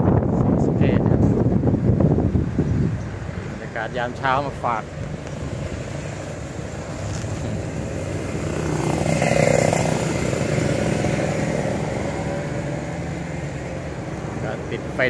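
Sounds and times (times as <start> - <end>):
pickup truck engine and road noise: 0.0 - 15.0.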